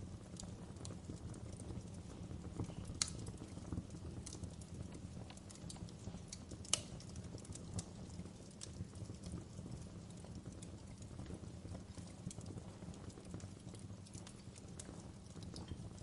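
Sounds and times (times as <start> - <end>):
firewood crackling: 0.0 - 16.0
low rumble of flames: 0.0 - 16.0.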